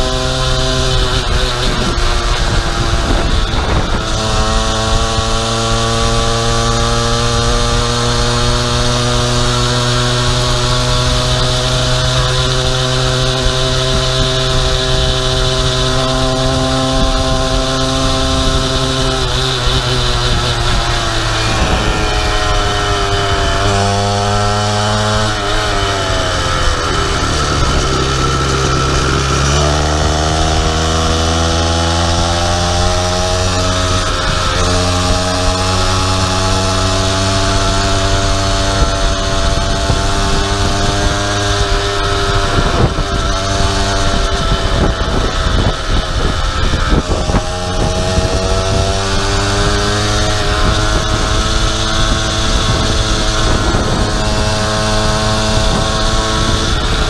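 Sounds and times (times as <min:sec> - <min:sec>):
small two-stroke engine running: 0:00.0 - 0:57.0.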